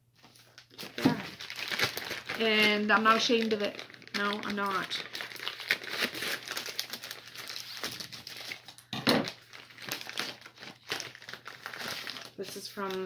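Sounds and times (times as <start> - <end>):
plastic crinkling and rustling: 0.2 - 13.0.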